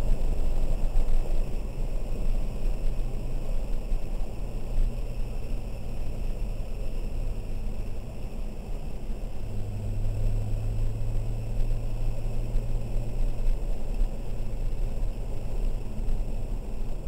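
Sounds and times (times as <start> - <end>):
car engine humming in cabin: 0.0 - 17.0.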